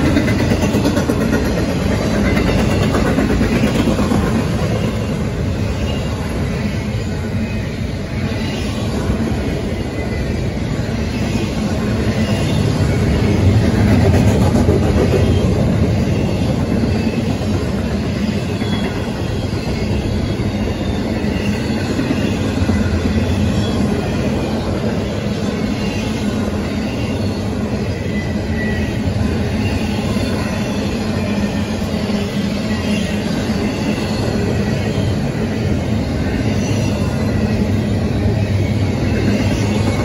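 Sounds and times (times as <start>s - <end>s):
steel wheels rumbling on rails: 0.0s - 40.0s.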